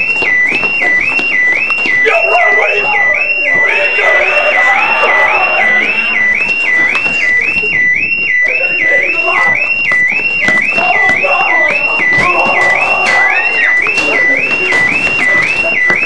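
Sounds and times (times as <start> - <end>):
electronic alarm siren whooping: 0.0 - 16.0
faint voices: 0.5 - 16.0.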